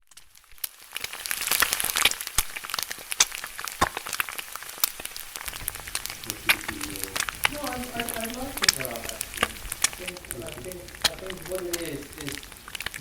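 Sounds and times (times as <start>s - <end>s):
dense crackling and sharp clicks: 0.0s - 13.0s.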